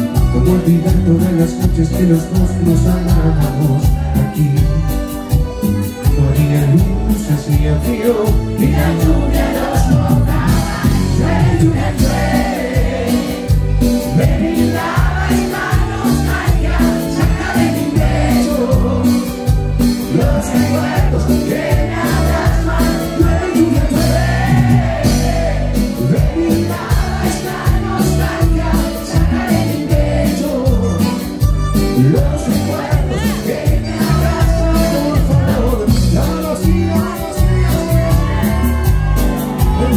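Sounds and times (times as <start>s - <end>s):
bandoneon: 0.0s - 39.9s
bass guitar: 0.0s - 39.9s
congas: 0.0s - 39.9s.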